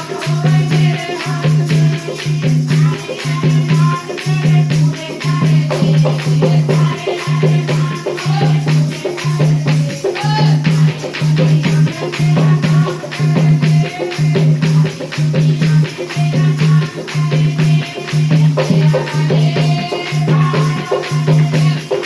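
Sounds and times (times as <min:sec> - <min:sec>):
shaker rattle percussion: 0:00.0 - 0:22.0.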